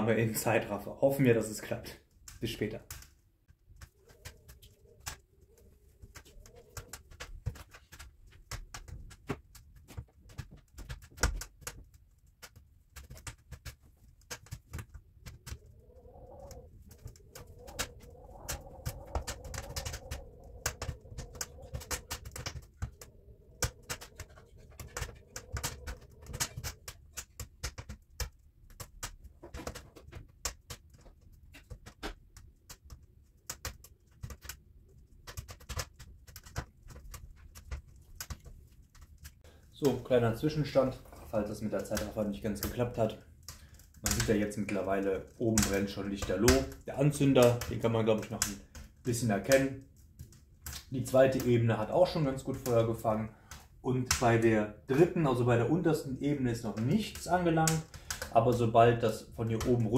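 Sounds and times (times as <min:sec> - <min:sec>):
wood fire crackling in stove: 0:00.0 - 0:59.9.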